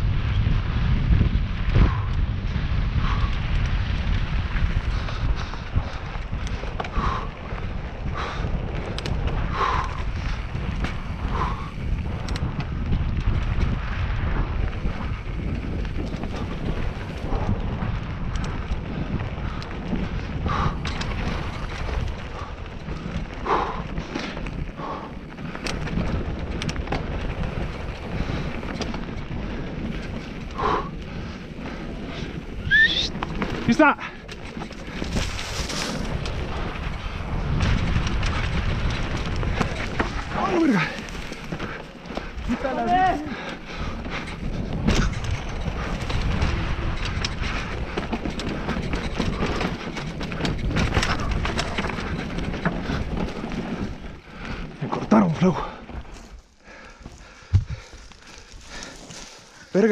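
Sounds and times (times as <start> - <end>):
bike rattling clicks: 0.0 - 59.9
tyres rolling over loose dirt: 0.0 - 59.9
wind rushing over microphone: 0.0 - 59.9.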